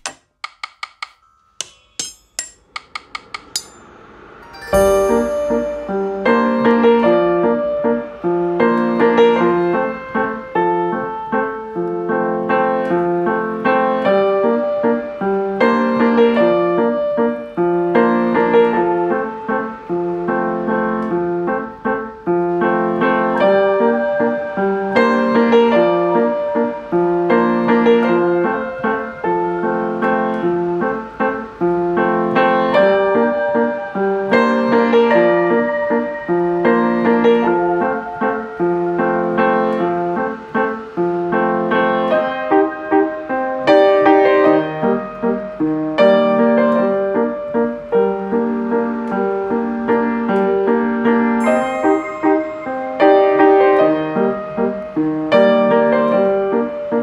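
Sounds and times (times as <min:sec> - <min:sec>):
gentle piano piece: 0:03.1 - 0:57.0.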